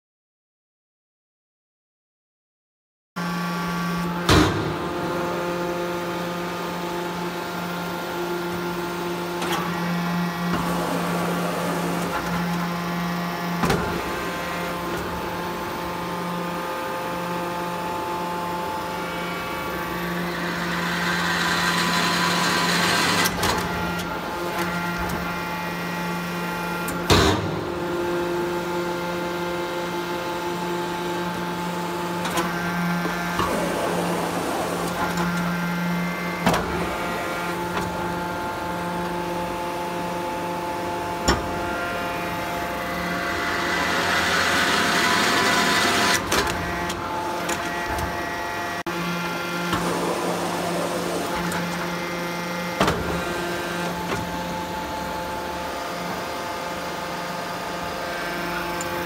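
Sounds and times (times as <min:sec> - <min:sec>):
hydraulic pump humming: 0:03.4 - 0:59.0.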